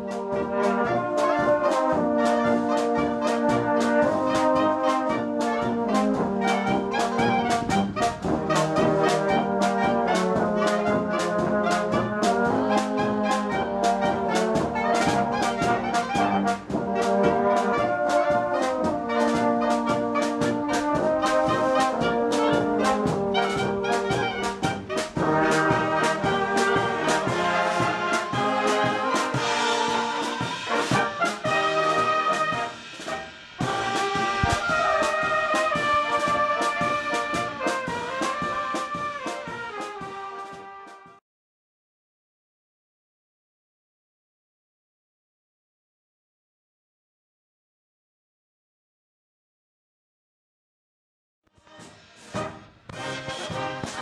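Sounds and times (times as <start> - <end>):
brass band playing oom-pah: 0.0 - 41.2, 51.6 - 54.0.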